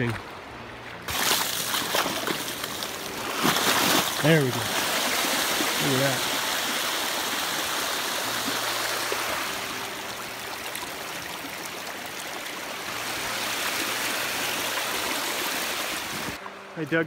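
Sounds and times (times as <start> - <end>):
water rushing down a channel: 1.1 - 16.4.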